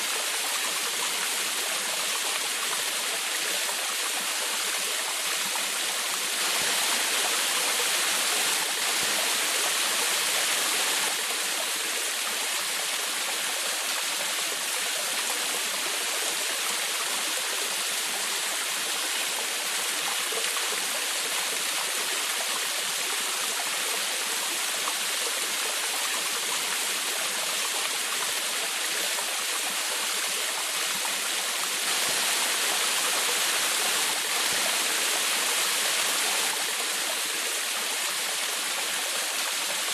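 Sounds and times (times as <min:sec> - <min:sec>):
waterfall splashing and rushing: 0:00.0 - 0:39.9.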